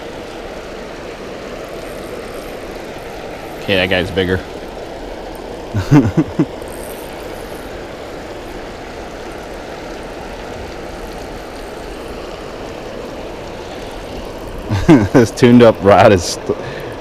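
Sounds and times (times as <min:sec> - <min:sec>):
water rushing over spillway: 0:00.0 - 0:17.0.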